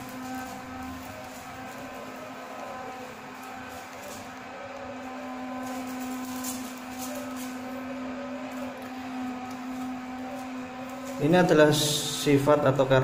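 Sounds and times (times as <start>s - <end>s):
claws scrabbling on tiled floor: 0.0s - 11.6s
low mechanical hum: 0.0s - 13.0s.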